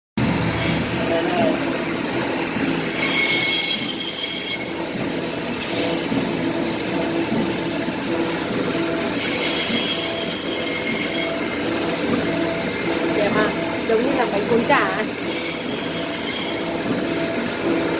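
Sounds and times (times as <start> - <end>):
meat slicer machine running: 0.2 - 17.9.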